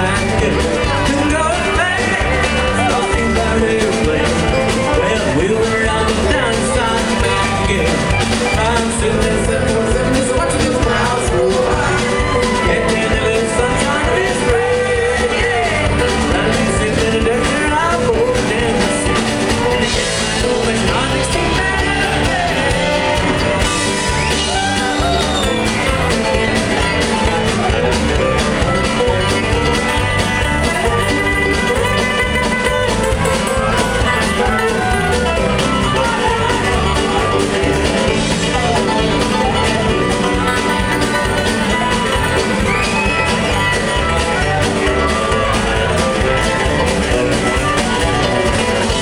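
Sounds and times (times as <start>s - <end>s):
live rock band with guitars: 0.0s - 49.0s
wailing blues harmonica: 0.0s - 49.0s.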